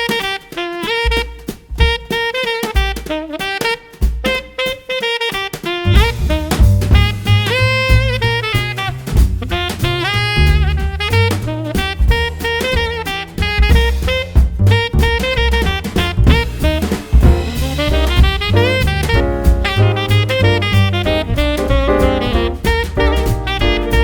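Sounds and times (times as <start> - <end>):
saxophone melody: 0.0 - 24.0
steady drum beat: 0.0 - 24.0.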